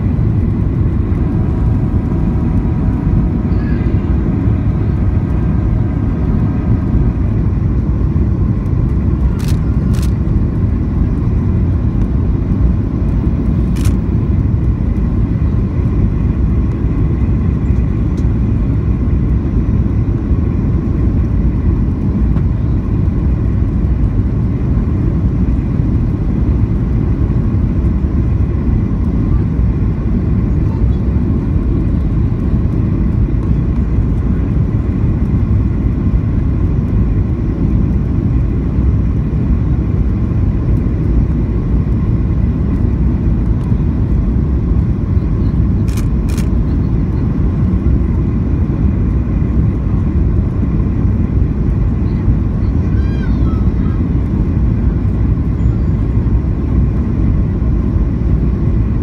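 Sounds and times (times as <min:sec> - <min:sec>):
faint engine whine: 0:00.0 - 0:59.0
low roar of engines and airflow: 0:00.0 - 0:59.0.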